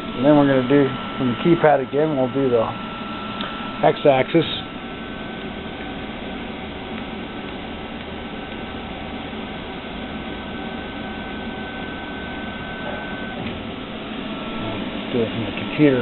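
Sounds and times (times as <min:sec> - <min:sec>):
machine hum: 0:00.0 - 0:16.0
stepper motor whine: 0:00.0 - 0:16.0.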